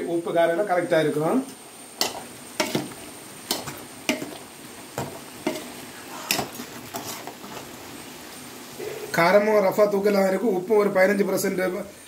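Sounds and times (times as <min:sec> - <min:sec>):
boiling liquid hissing: 0:00.0 - 0:12.0.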